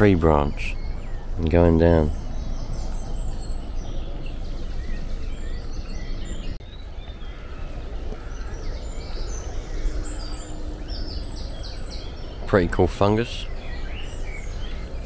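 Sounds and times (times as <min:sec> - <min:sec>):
small birds chirping: 0:00.0 - 0:15.0
steady background noise: 0:00.0 - 0:15.0.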